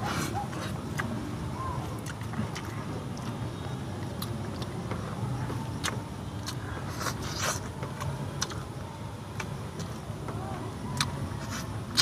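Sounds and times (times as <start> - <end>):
wet chewing: 0.0 - 8.7, 11.0 - 12.0.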